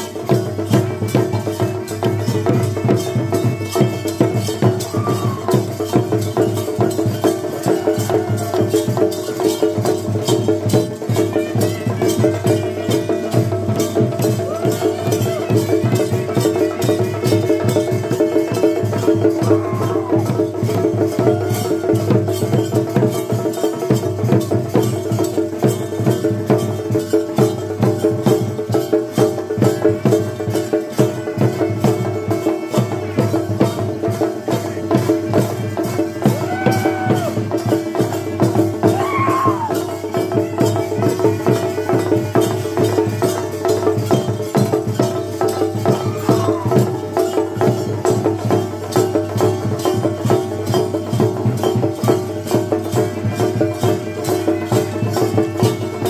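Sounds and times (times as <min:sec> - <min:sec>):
fast drumming: 0:00.0 - 0:56.0.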